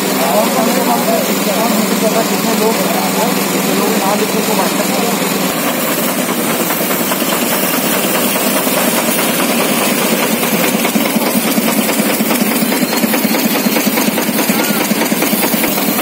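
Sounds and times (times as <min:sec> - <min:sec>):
sprayer engine pulsing: 0:00.0 - 0:16.0.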